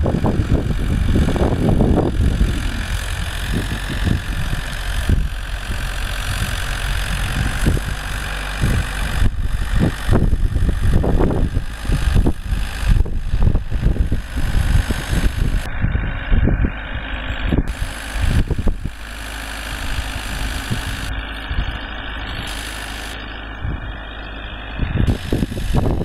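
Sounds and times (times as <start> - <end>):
wind buffeting microphone: 0.0 - 19.1, 19.7 - 22.7, 23.6 - 24.0, 24.8 - 26.0
tractor diesel engine under load: 0.0 - 26.0.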